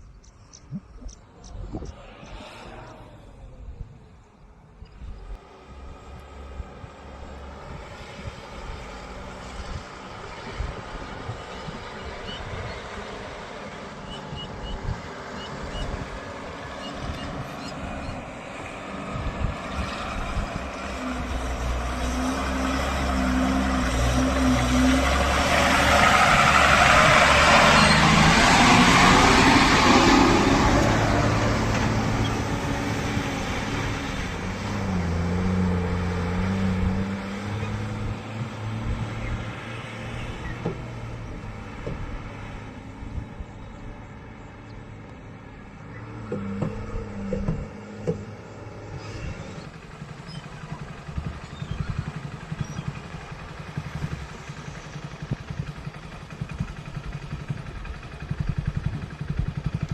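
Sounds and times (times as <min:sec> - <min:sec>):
diesel engine revving: 0:05.1 - 0:59.9.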